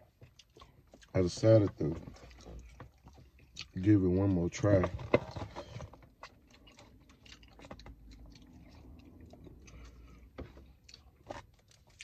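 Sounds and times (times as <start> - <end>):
person chewing: 0.0 - 3.8, 5.3 - 12.0.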